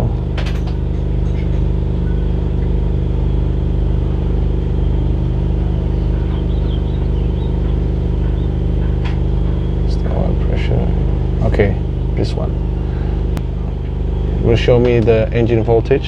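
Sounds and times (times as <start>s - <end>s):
boat machinery droning: 0.0s - 16.0s.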